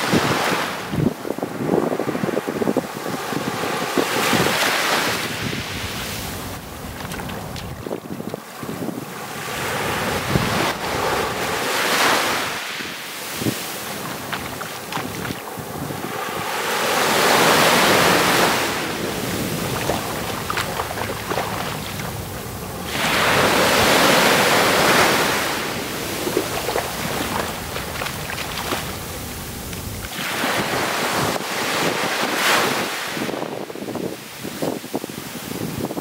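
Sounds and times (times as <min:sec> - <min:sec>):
waves washing onto sandy beach: 0:00.0 - 0:36.0
wind rumble on microphone: 0:00.0 - 0:36.0.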